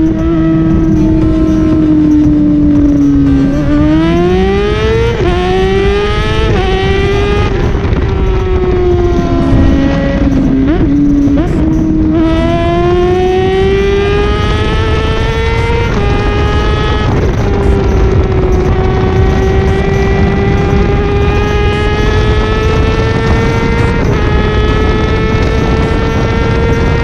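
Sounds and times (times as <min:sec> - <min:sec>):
motorcycle engine accelerating: 0:00.0 - 0:27.0
wind rushing: 0:00.0 - 0:27.0.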